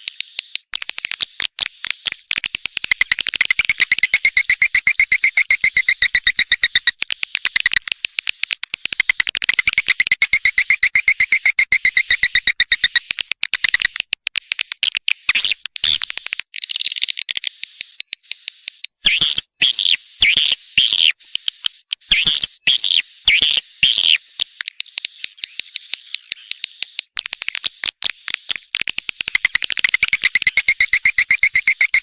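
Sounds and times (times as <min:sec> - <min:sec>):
swiftlets twittering: 0:00.2 - 0:17.0, 0:17.7 - 0:32.0.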